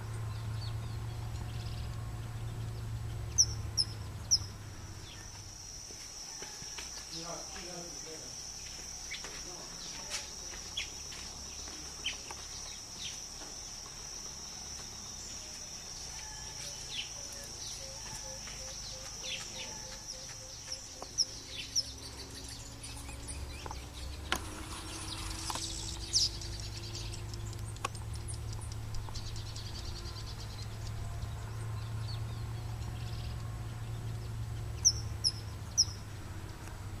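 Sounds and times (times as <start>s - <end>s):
high insect drone: 0.0s - 37.0s
bird chirps and calls: 0.3s - 5.7s, 6.6s - 13.8s, 15.2s - 31.4s, 34.1s - 36.0s.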